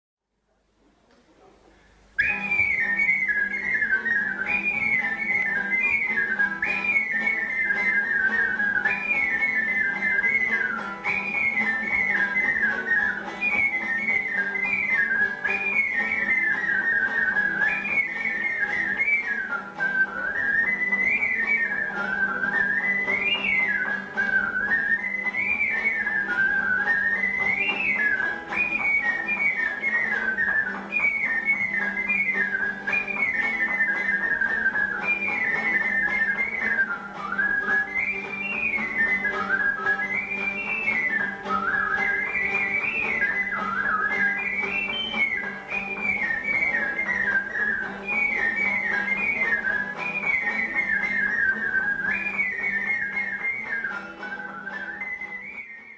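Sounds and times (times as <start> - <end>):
classical guitar: 0.8 - 55.9
ocarina melody: 1.9 - 55.9.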